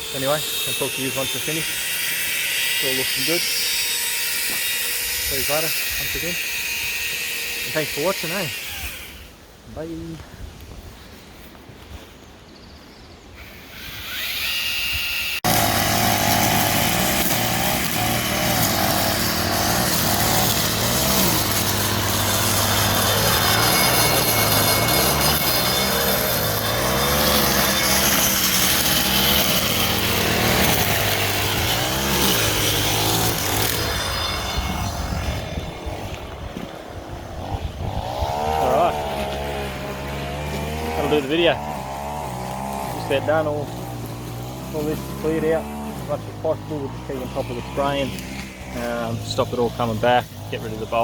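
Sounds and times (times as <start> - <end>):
power tool engine revving: 0.0 - 9.3, 13.4 - 51.0.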